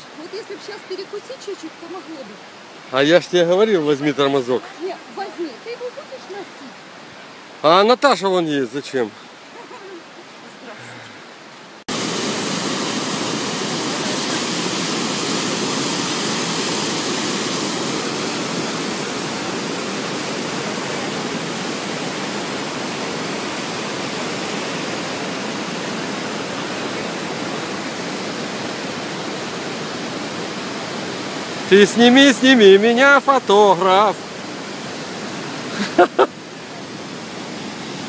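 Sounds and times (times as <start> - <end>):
river whitewater roaring: 0.0 - 38.0.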